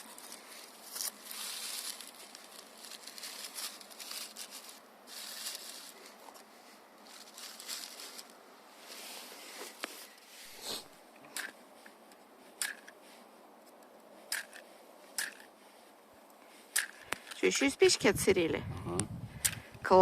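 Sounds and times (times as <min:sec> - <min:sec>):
bark and kindling crinkling: 0:00.0 - 0:18.5.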